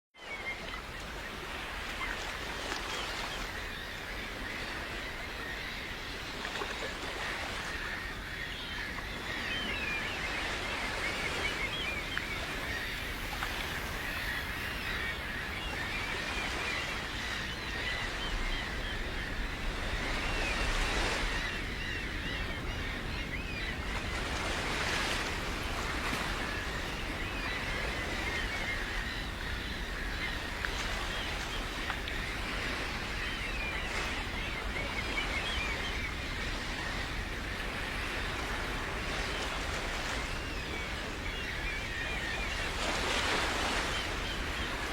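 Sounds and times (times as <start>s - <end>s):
birds chirping: 0.3s - 44.9s.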